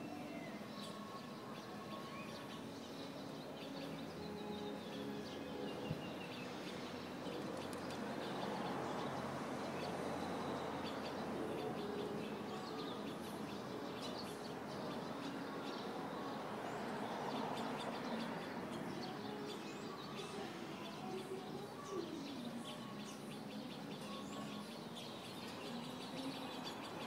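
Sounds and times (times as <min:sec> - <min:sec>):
small birds chirping: 0:00.0 - 0:27.0
steady background noise: 0:00.0 - 0:27.0.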